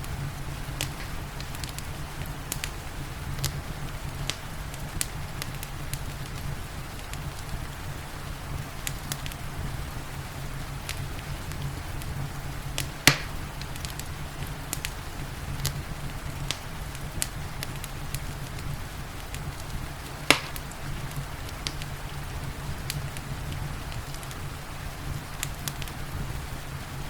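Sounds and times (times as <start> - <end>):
rain hissing: 0.0 - 27.0
wood fire crackling: 0.0 - 27.0.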